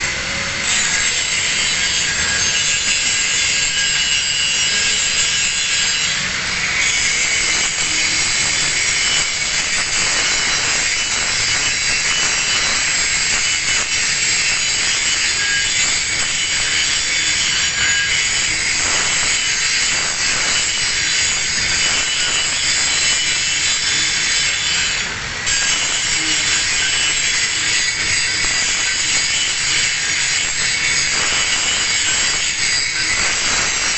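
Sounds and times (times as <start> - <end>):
angle grinder grinding steel: 0.0 - 33.9.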